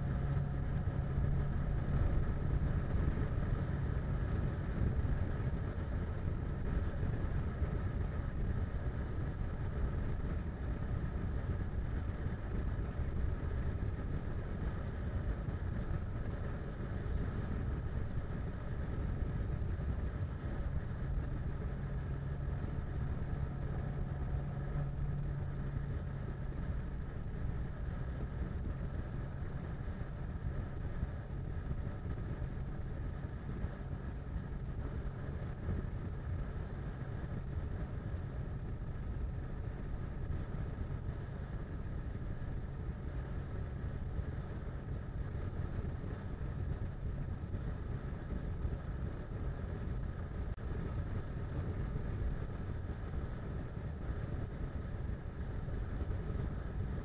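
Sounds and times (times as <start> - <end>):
car interior road noise: 0.0 - 57.0
low steady hum: 0.0 - 57.0.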